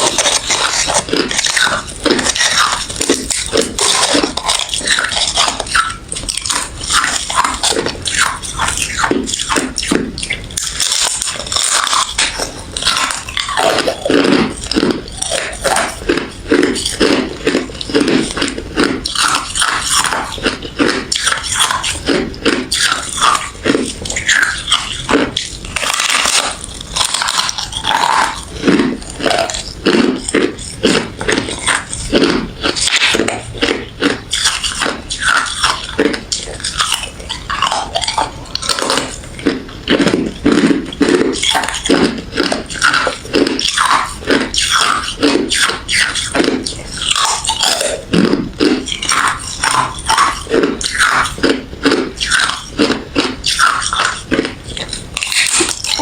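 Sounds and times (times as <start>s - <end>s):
crunching ice being chewed: 0.0s - 56.0s.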